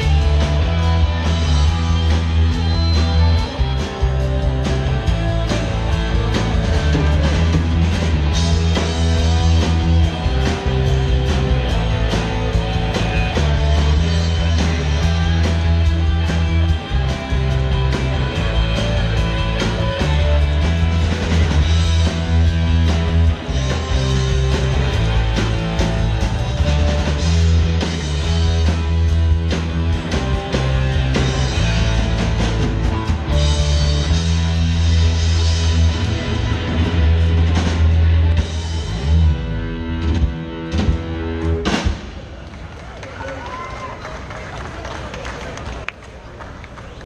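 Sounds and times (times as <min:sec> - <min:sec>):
steady drum beat: 0:00.0 - 0:39.2
electric guitars: 0:00.0 - 0:42.2
strong bass notes: 0:00.0 - 0:42.4.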